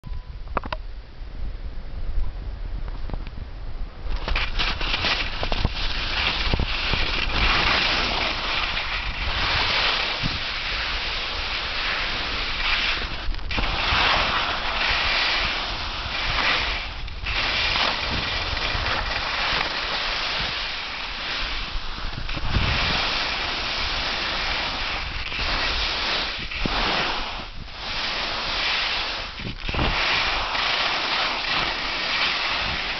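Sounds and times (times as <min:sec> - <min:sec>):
wind on microphone: 0:00.0 - 0:32.9
skis scraping over snow: 0:04.2 - 0:32.9.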